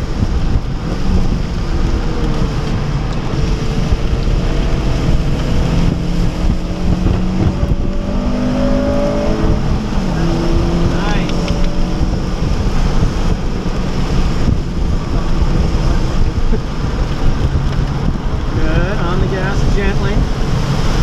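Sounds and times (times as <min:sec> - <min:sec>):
car engine accelerating: 0:00.0 - 0:21.0
tyre and road noise: 0:00.0 - 0:21.0.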